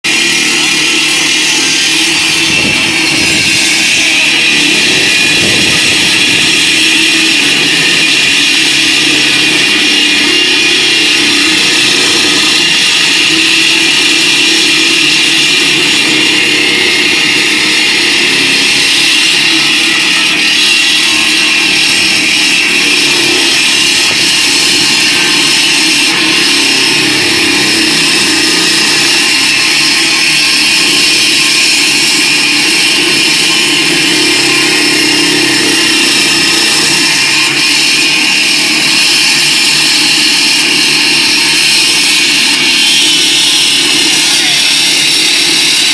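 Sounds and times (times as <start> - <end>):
concrete saw grinding whine: 0.0 - 45.9.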